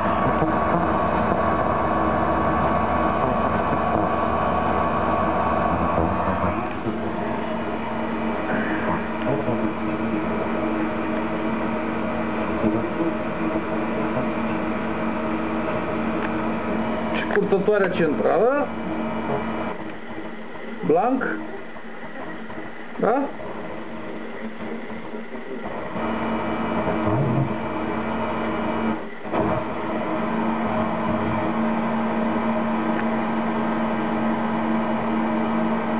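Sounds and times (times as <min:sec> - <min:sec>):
radio jamming buzz with hiss: 0:00.0 - 0:35.9.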